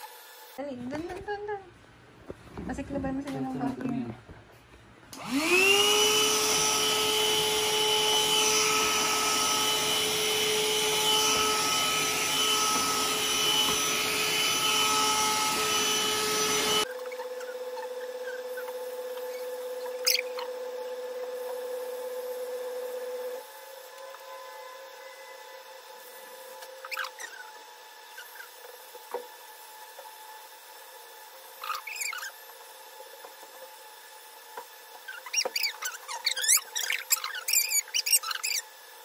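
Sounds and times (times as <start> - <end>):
handheld vacuum cleaner motor whining: 5.2 - 39.0.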